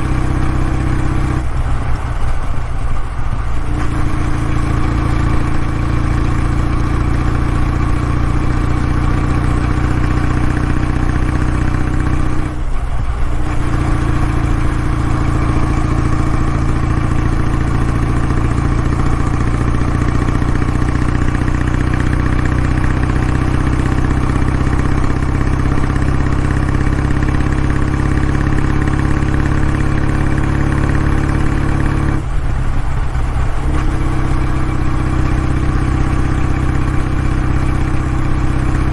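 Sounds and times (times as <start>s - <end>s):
motorcycle engine exhaust: 0.0s - 38.9s.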